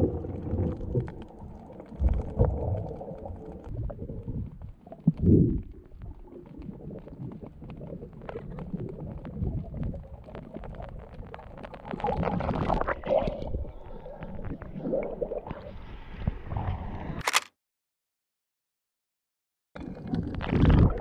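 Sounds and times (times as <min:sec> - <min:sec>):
bubbly gurgling: 0:00.0 - 0:15.6, 0:19.8 - 0:21.0
muffled underwater rumble: 0:00.0 - 0:17.1.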